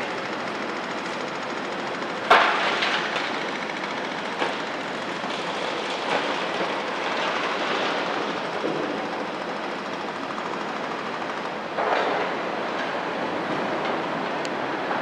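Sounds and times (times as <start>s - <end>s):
excavator engines running: 0.0s - 15.0s.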